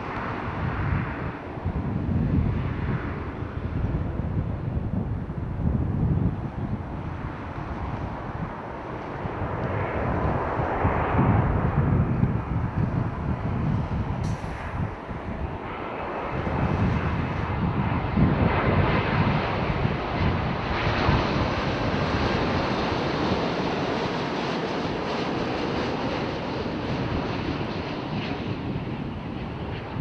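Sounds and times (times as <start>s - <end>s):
jet engine noise: 0.0s - 30.0s
wind buffeting microphone: 0.0s - 30.0s.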